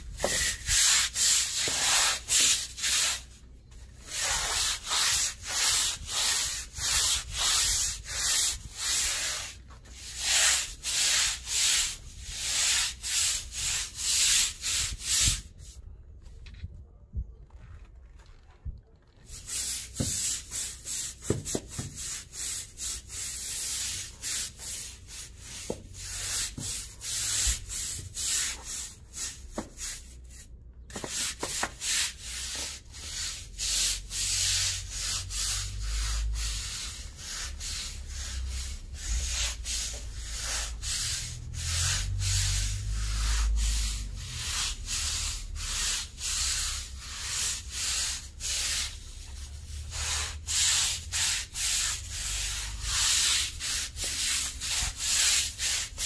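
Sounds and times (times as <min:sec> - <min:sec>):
brush scrubbing wet concrete: 0:00.1 - 0:15.7, 0:19.2 - 0:56.0.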